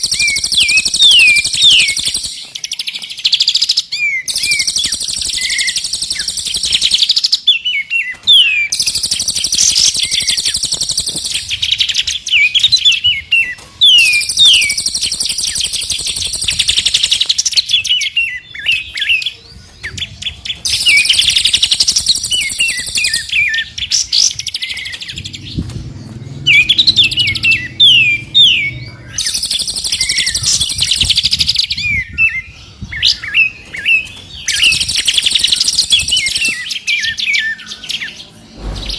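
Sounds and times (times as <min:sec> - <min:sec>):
songbirds singing trills: 0:00.0 - 0:38.9.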